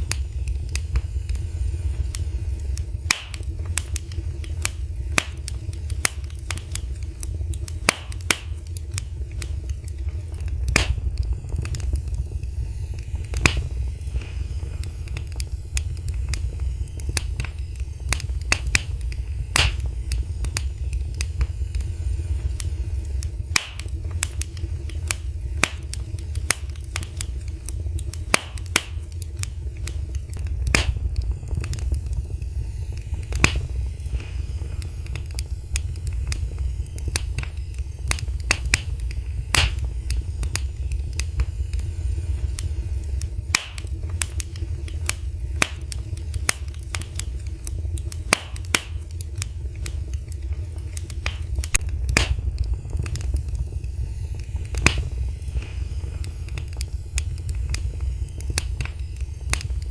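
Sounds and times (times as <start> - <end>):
fire crackling in fireplace: 0.0 - 59.9
low rumble of flames: 0.0 - 59.9
pops and snaps of fire: 0.0 - 59.9.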